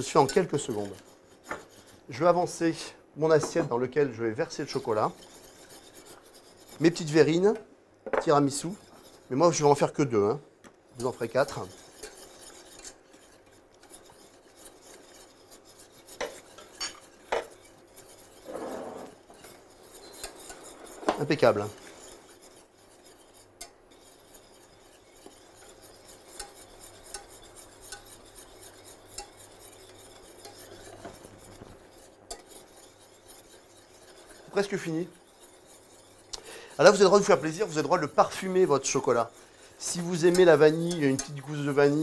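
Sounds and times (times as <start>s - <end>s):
whisk scraping steel saucepan: 0.0s - 7.6s, 8.2s - 42.0s.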